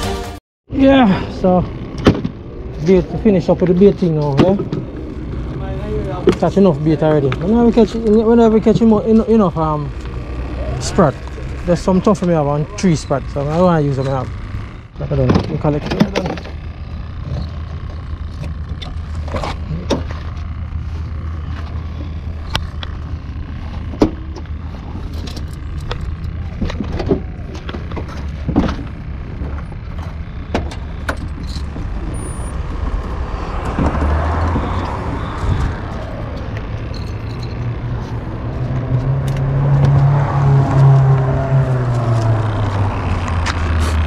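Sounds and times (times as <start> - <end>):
car engine idling: 0.8 - 44.0
gear being loaded into car: 1.6 - 44.0.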